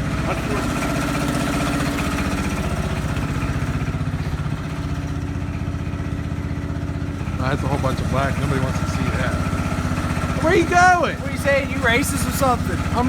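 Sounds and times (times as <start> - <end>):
small tractor engine running: 0.0 - 13.0.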